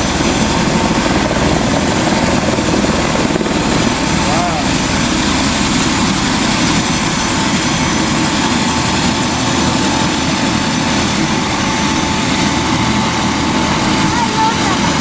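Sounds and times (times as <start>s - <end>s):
helicopter flying low: 0.0s - 15.0s
thin steady whine: 0.0s - 15.0s.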